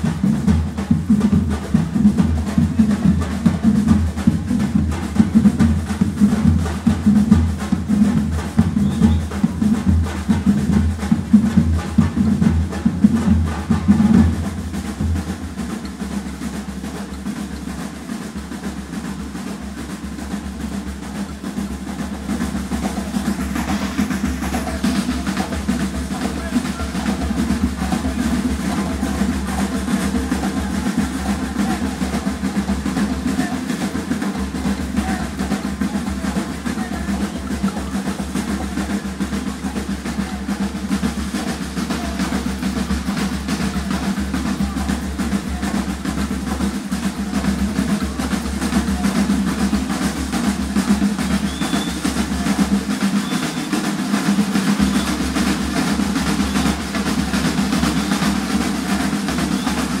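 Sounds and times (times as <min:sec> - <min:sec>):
drumming group playing: 0:00.0 - 1:00.0.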